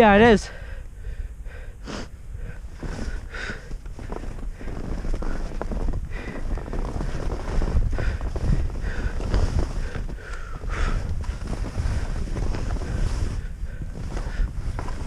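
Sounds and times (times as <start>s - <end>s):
wind buffeting the microphone: 0.0s - 15.0s
skis sliding through snow: 2.7s - 15.0s.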